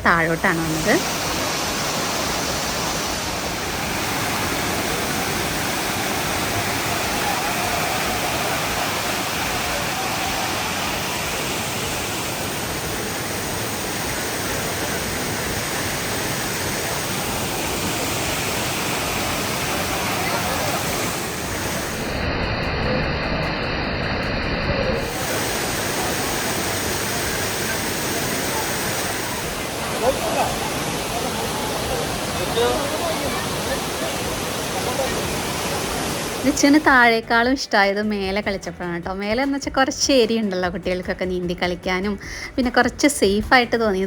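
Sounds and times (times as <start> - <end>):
waterfall roaring: 0.0 - 37.1.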